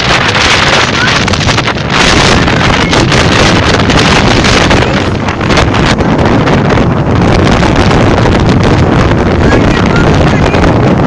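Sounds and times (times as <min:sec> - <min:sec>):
strong wind blasting microphone: 0:00.0 - 0:11.0.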